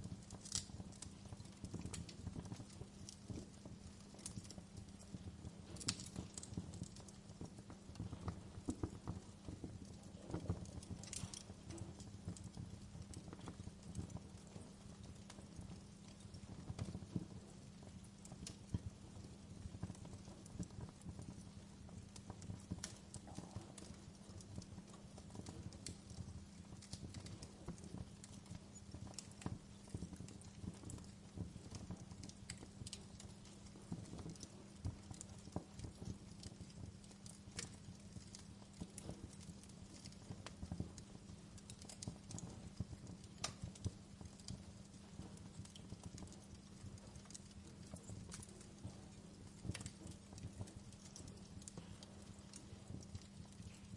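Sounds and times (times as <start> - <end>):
fire pops and snaps: 0.0 - 53.9
low rumble of burning: 0.0 - 53.9
wood fire crackling: 0.0 - 53.9.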